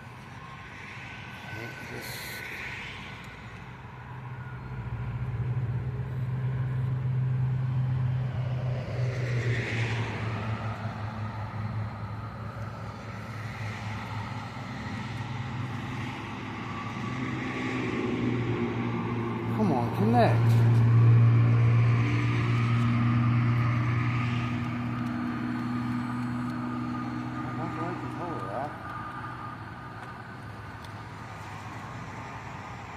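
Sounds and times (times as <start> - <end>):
steady engine drone: 0.0 - 32.9
vehicles passing: 0.0 - 32.9.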